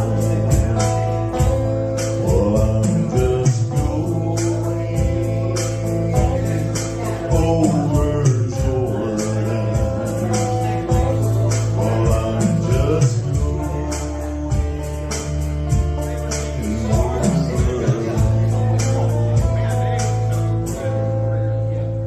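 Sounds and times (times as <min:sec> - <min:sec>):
drum beat: 0:00.0 - 0:20.2
person singing: 0:00.0 - 0:21.1
bass notes: 0:00.0 - 0:22.0
guitar: 0:00.0 - 0:22.0.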